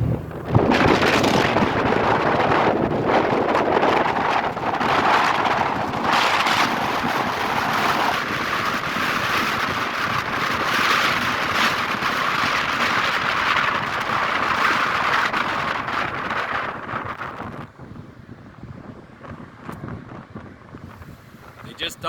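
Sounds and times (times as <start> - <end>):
road and engine noise: 0.0 - 22.0
wind on microphone: 0.0 - 22.0.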